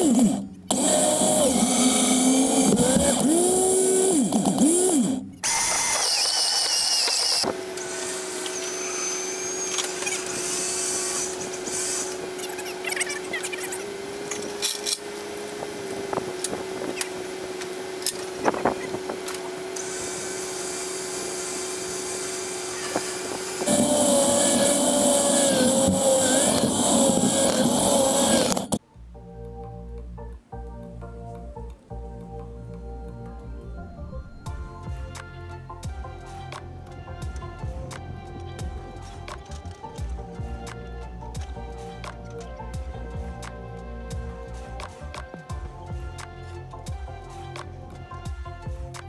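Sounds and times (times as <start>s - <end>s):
electric winch whining: 0.0s - 28.8s, 32.7s - 47.2s.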